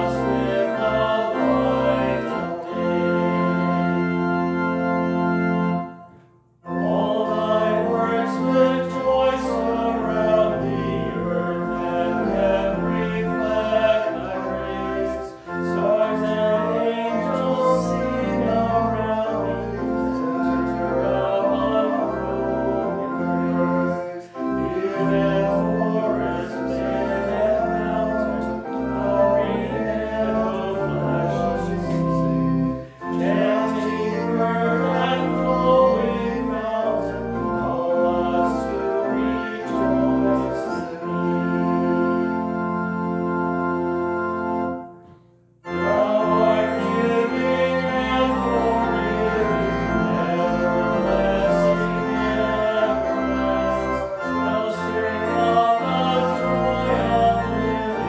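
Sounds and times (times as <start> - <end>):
people singing a hymn: 0.0 - 5.0, 6.6 - 43.3, 45.6 - 58.0
organ chord: 0.0 - 58.0.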